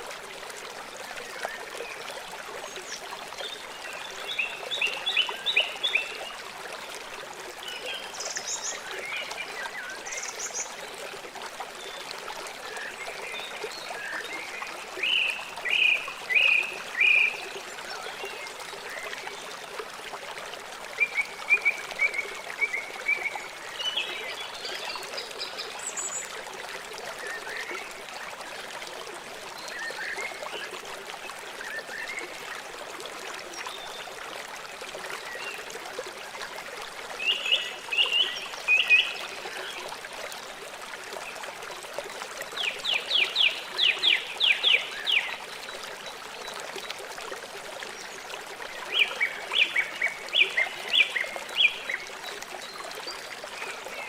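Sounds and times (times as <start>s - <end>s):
stream running: 0.0s - 54.0s.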